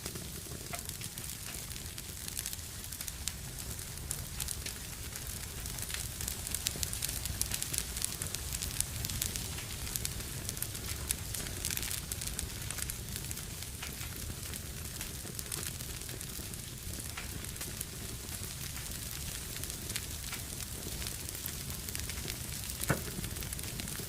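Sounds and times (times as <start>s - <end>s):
fireplace fire crackling: 0.0s - 24.0s.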